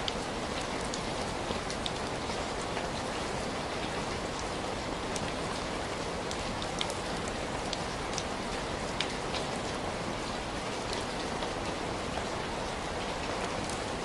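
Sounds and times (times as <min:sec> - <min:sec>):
sharp ticks of raindrops: 0:00.0 - 0:14.0
steady rain falling: 0:00.0 - 0:14.0.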